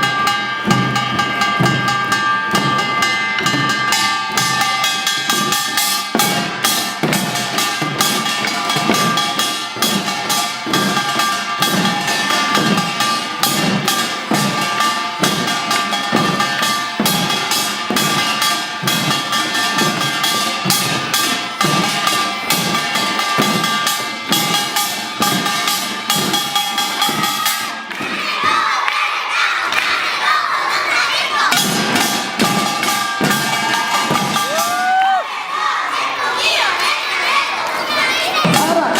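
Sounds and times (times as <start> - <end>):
ringing gongs clanging: 0.0 - 28.0, 31.5 - 35.2
rapid drum strokes: 0.0 - 38.9.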